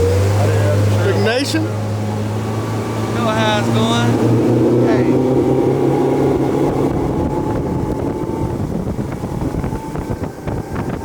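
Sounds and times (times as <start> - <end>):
low rumbling noise: 0.0 - 11.0
low hum: 1.6 - 11.0.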